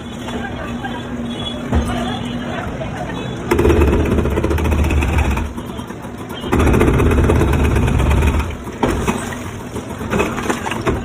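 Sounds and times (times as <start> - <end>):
demolition machine engine running hard: 0.0 - 11.0.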